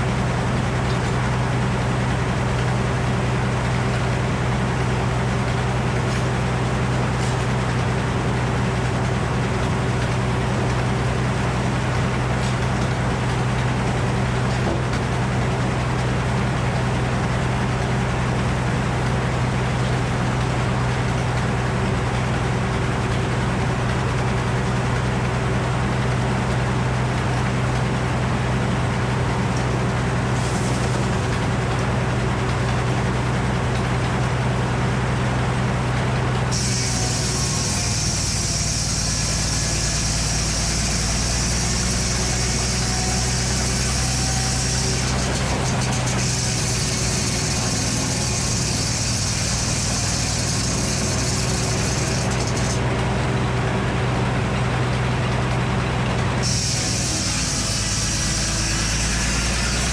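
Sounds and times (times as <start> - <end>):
large engine humming: 0.0 - 59.9.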